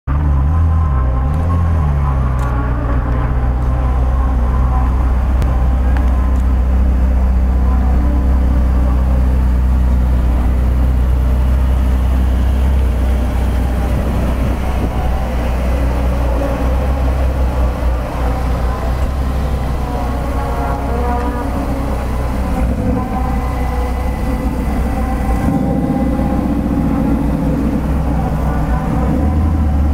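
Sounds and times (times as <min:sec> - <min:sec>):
car engine idling: 0:00.1 - 0:29.9.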